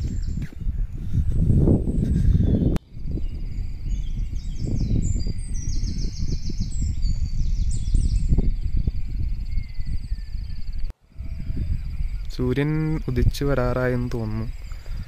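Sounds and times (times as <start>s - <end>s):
wind buffeting microphone: 0.0s - 15.0s
high-pitched chirping trills: 1.9s - 15.0s.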